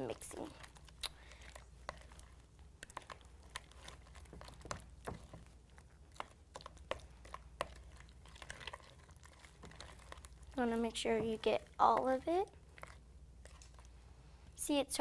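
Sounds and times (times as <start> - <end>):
low steady hum: 0.0 - 15.0
slime squishing and clicking: 0.2 - 13.9.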